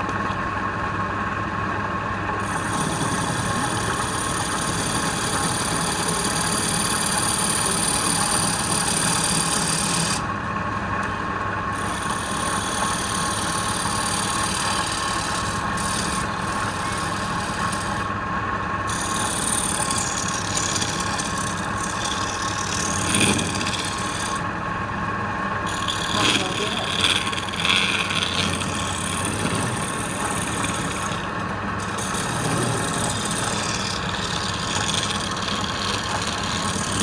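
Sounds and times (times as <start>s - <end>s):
lathe motor hum: 2.3s - 37.0s
tool rasping spinning wood: 2.4s - 10.3s, 11.7s - 18.2s, 18.8s - 24.6s, 25.3s - 37.0s.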